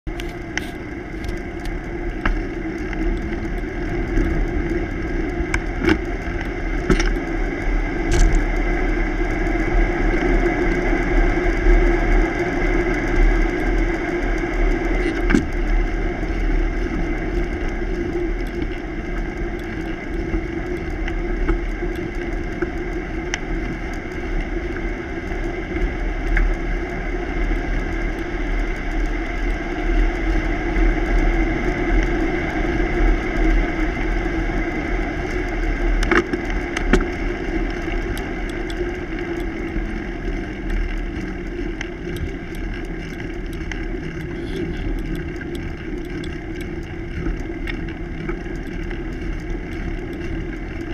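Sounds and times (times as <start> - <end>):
bicycle tyres humming: 0.0 - 50.9
wind buffeting microphone: 0.1 - 50.9.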